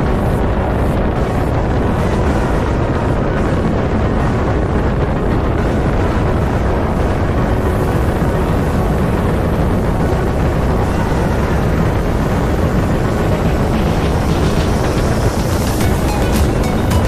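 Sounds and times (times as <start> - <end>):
boat engine: 0.0 - 17.0
wind buffeting microphone: 0.0 - 17.0.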